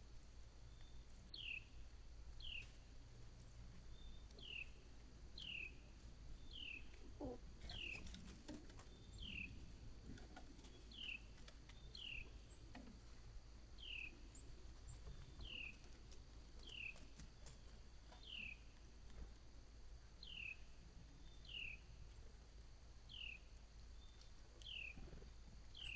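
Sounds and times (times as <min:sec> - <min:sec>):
faint ticks and rustles: 0:00.0 - 0:25.9.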